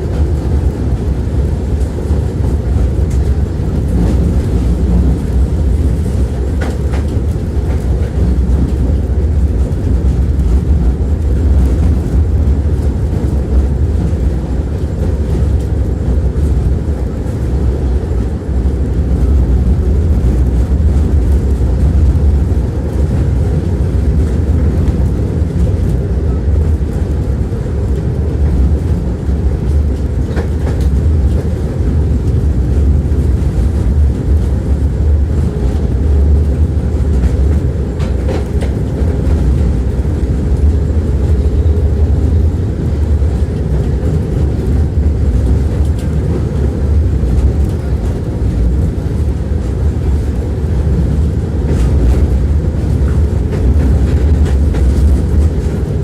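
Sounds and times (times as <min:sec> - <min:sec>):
tram wheels rumbling on rails: 0:00.0 - 0:56.0.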